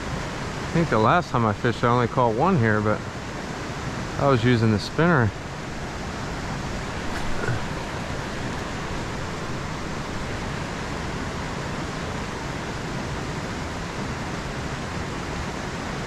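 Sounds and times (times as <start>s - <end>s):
creek water rushing over riffles: 0.0s - 16.0s.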